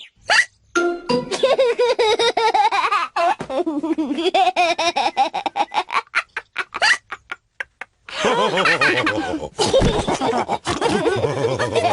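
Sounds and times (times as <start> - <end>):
cartoon voices laughing: 1.3 - 11.9.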